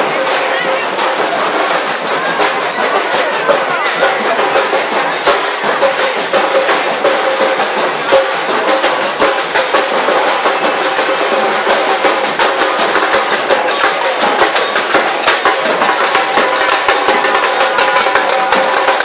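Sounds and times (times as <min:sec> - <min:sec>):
drums beating: 0:00.0 - 0:19.0
marching band playing: 0:00.0 - 0:19.0.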